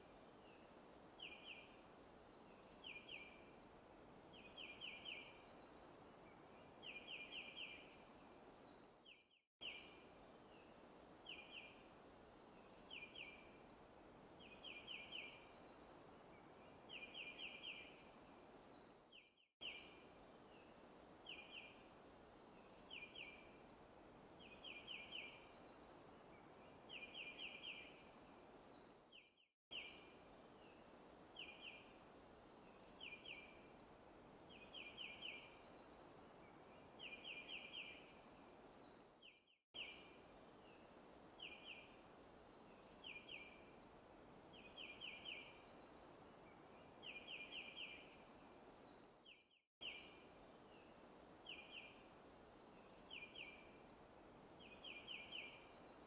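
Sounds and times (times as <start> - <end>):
forest ambience hiss: 0.0 - 8.9, 9.6 - 19.0, 19.6 - 29.0, 29.7 - 39.1, 39.8 - 56.0.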